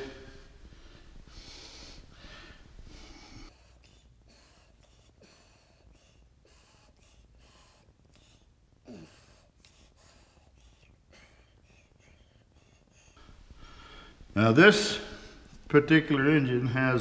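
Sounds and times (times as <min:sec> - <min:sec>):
faint breathing: 0:00.0 - 0:15.7.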